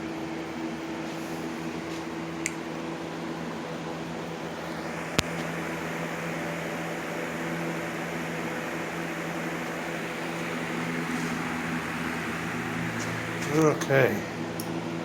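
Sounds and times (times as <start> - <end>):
box fan humming: 0.0 - 15.0.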